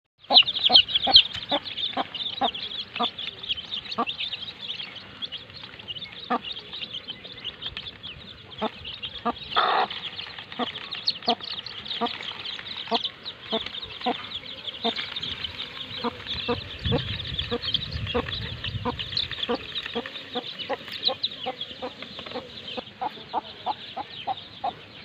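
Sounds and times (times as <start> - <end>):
hen clucking: 0.2 - 5.0, 8.4 - 24.8
baby chicks peeping: 0.2 - 25.0.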